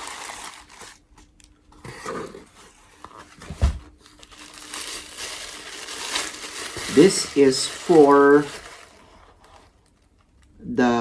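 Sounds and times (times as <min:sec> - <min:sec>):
leather sheath and packaging rustling: 0:00.0 - 0:01.0, 0:01.8 - 0:10.4.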